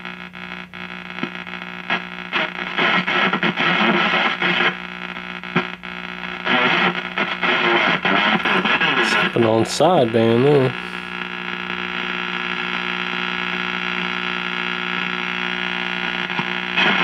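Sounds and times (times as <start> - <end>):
steady low hum: 0.0 - 16.8
radio static and hiss: 0.0 - 17.0
garbled radio signal: 0.4 - 17.0.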